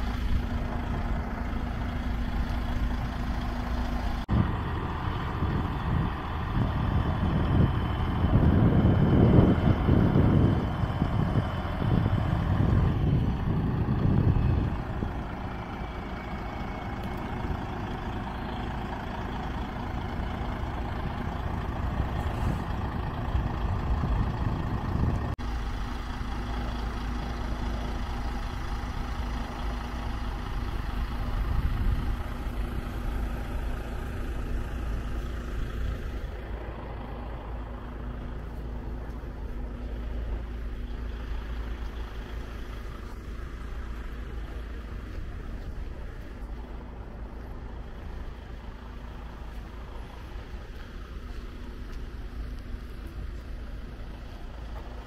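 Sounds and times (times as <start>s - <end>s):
heavy truck engine running: 0.0s - 55.0s.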